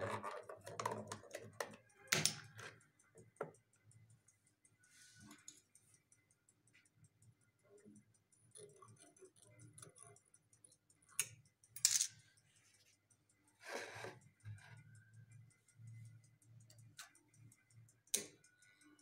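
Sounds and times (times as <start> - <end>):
faint rapid ticking: 0.5 - 19.0.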